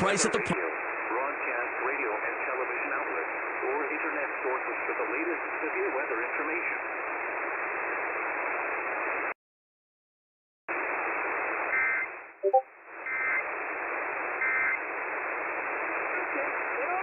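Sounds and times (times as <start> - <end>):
radio static hiss: 0.0 - 9.3, 10.7 - 12.3, 12.9 - 17.0.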